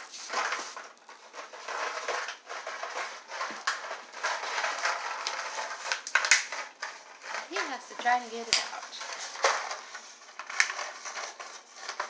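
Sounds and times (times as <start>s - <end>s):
plastic bottle crinkling and scraping: 0.0s - 12.0s.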